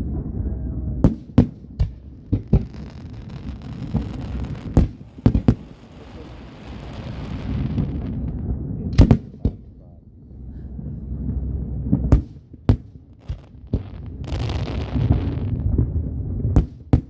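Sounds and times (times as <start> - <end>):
steady low rumble: 0.0 - 17.0
fireworks bangs: 0.9 - 9.8, 11.9 - 17.0.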